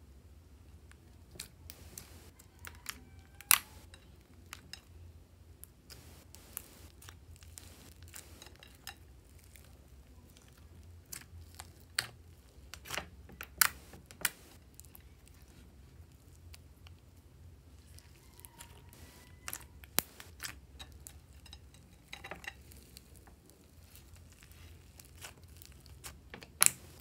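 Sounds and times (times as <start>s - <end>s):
slime squishing with sticky clicks: 0.9s - 4.9s, 5.6s - 15.4s, 18.0s - 27.0s.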